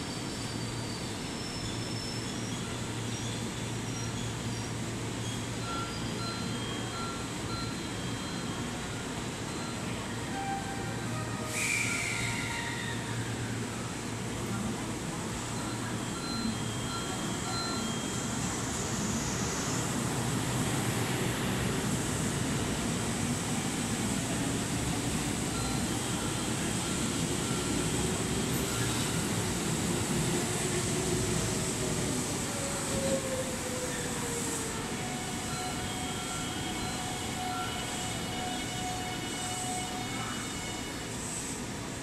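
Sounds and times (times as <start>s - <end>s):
electric train rolling slowly: 0.0s - 42.0s.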